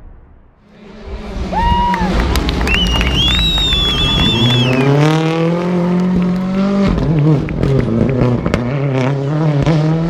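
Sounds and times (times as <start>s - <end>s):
rally car engine revving: 0.6s - 10.0s.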